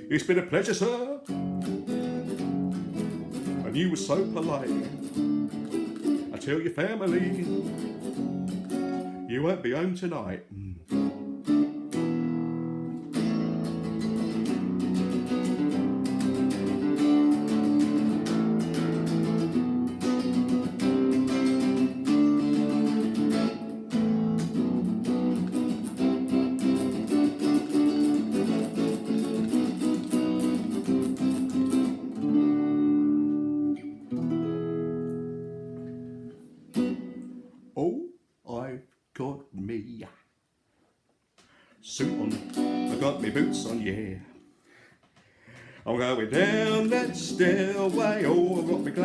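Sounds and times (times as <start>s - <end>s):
guitar strumming chords: 0.0s - 37.9s, 41.9s - 44.3s, 45.6s - 49.0s.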